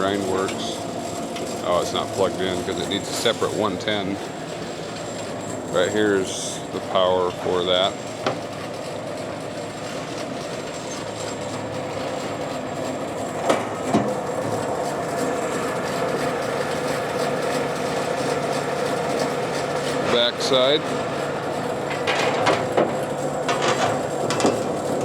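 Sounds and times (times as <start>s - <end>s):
band saw humming: 0.0s - 25.0s.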